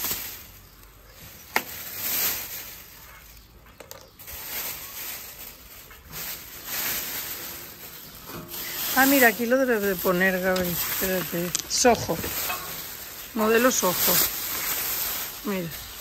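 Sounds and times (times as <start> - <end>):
rustling and handling noises: 0.0 - 16.0.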